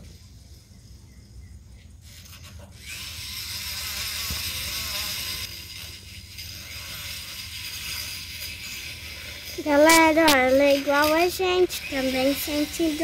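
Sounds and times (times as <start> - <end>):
dental float grinding teeth: 2.1 - 13.0.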